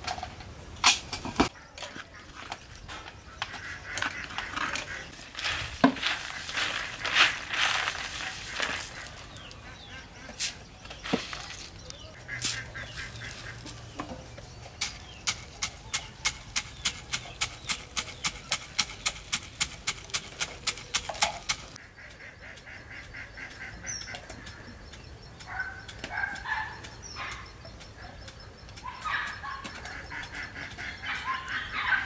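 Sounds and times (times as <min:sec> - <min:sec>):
chicken calls: 0:01.4 - 0:32.0.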